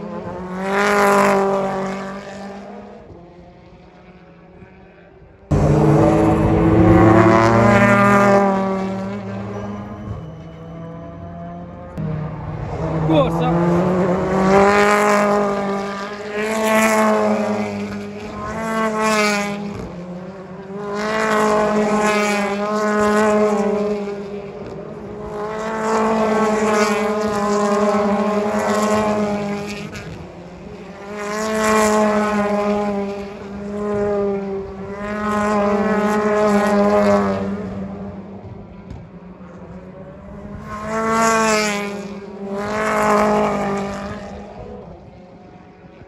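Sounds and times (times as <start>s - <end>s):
racing cars passing: 0.0s - 46.0s.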